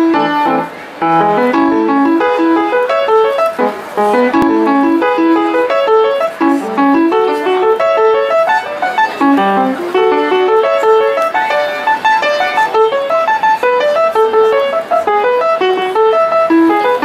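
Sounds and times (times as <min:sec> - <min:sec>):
child playing piano: 0:00.0 - 0:17.0.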